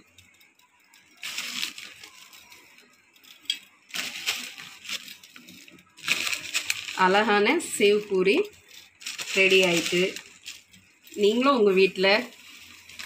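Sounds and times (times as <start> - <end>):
dry snack rustling and crinkling: 0.0 - 13.0.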